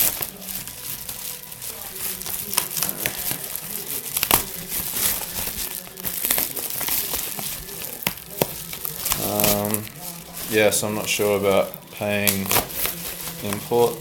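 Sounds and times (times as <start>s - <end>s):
packing material crinkling: 0.0s - 14.0s.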